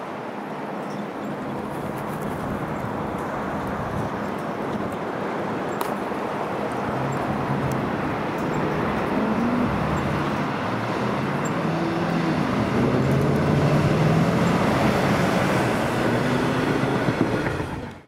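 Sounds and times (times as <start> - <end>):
diesel engine drone: 0.0 - 18.0
wheels rumbling on track: 0.0 - 18.0.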